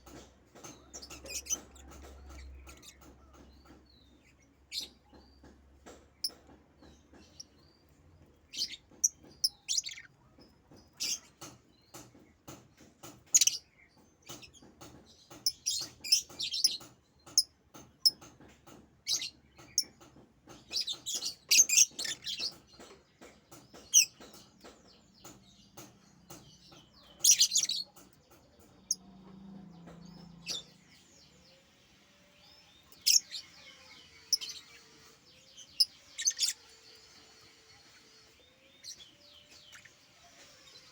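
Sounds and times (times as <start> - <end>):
pet bird chirping: 0.0 - 7.7, 8.5 - 12.2, 12.8 - 40.9.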